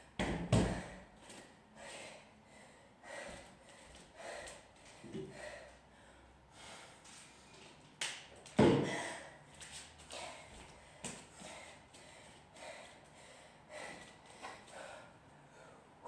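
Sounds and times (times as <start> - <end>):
woman breathing hard: 0.6 - 7.7, 8.8 - 16.0.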